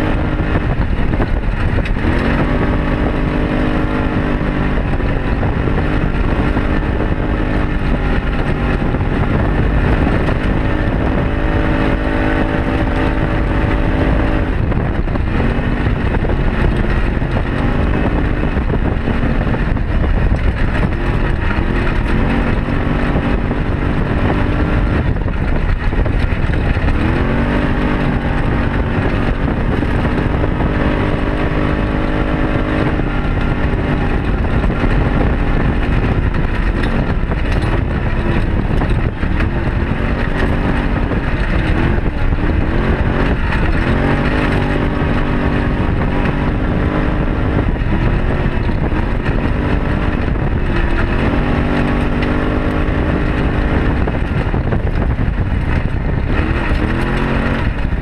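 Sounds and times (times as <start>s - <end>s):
road and wind noise: 0.0s - 58.0s
vehicle engine running: 0.0s - 58.0s.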